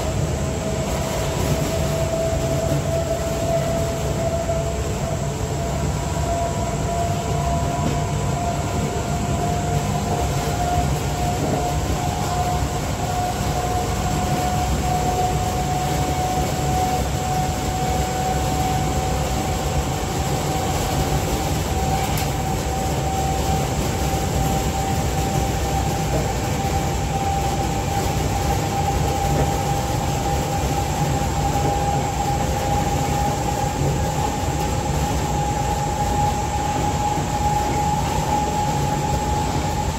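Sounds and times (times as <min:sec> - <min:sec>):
electric train traction whine: 0:00.0 - 0:39.9
wheels rumbling on track: 0:00.0 - 0:39.9.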